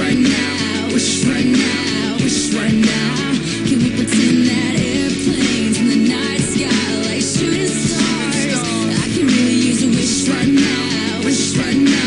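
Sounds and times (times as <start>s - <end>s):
song with steady beat: 0.0s - 12.0s.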